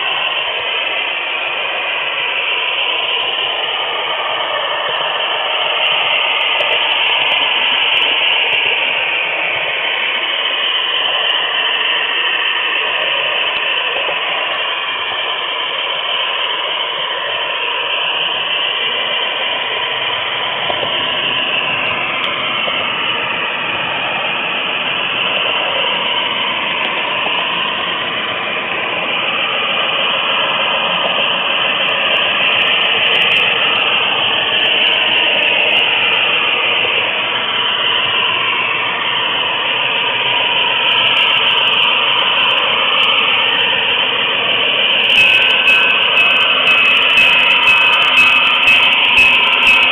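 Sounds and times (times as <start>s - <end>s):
model train wheels rattling: 0.0s - 49.9s
whine drifting in pitch: 0.0s - 49.9s.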